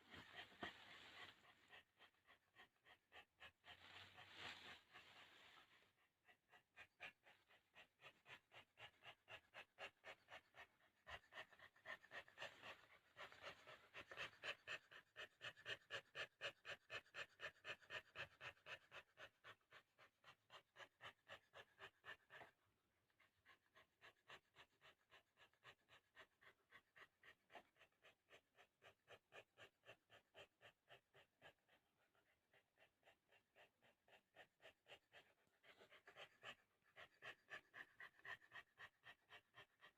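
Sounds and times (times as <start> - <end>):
dog panting hard: 0.0 - 39.9.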